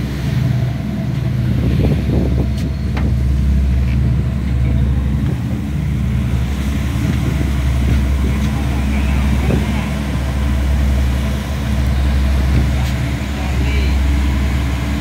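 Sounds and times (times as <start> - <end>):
ship engine drone: 0.0 - 15.0
wind and water noise: 0.0 - 15.0.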